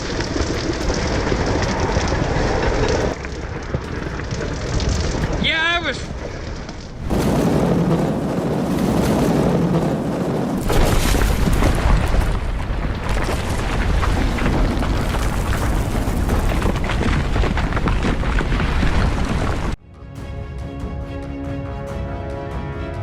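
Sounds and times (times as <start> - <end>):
deep rumble with crackling: 0.0 - 19.8.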